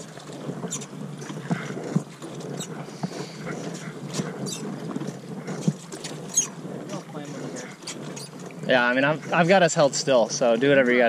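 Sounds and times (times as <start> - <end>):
oars knocking in oarlocks: 0.0 - 11.0
water rushing around boat hull: 0.0 - 11.0.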